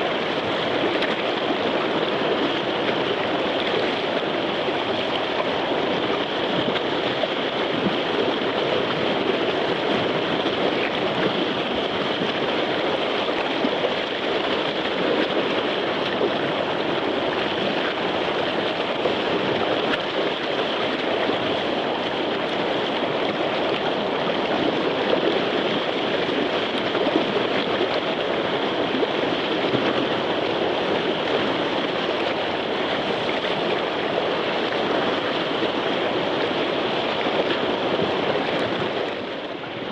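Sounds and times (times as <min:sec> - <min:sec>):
whitewater rushing: 0:00.0 - 0:39.9.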